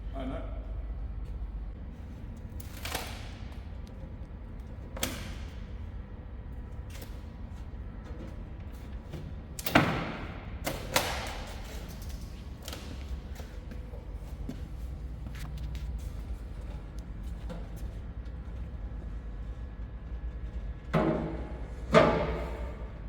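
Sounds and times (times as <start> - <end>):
low workshop hum: 0.0 - 23.0.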